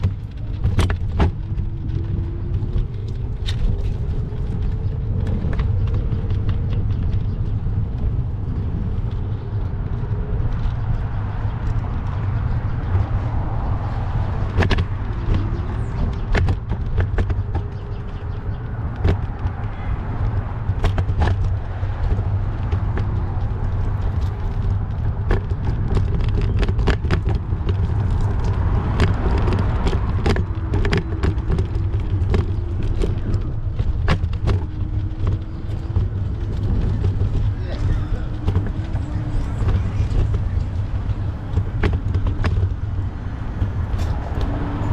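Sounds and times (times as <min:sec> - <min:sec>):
bicycle clicks and rattles: 0:00.0 - 0:44.9
cars passing: 0:00.0 - 0:44.9
wind and road rumble: 0:00.0 - 0:44.9.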